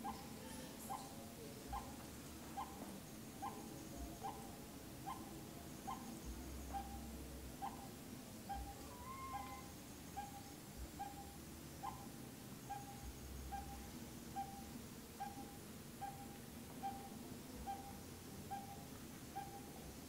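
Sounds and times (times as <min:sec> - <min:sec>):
bird hooting: 0:00.0 - 0:02.0, 0:02.6 - 0:02.8, 0:03.4 - 0:19.8.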